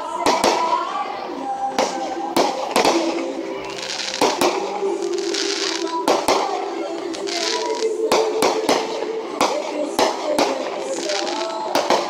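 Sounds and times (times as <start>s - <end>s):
fireworks crackling: 0.0s - 12.0s
fireworks bursting with bangs: 0.2s - 1.0s, 1.6s - 12.0s.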